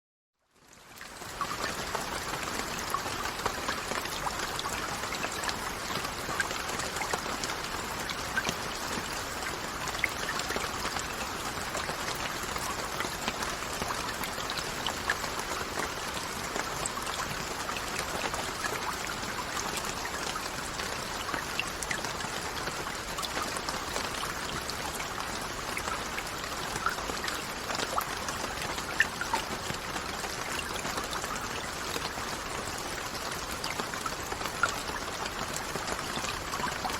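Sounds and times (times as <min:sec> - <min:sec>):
water drips: 0:00.6 - 0:36.9.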